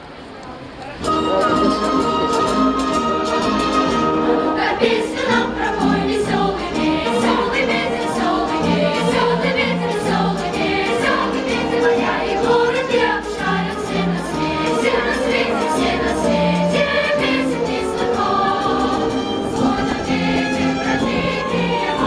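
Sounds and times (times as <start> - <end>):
choir singing with accompaniment: 1.0 - 22.0.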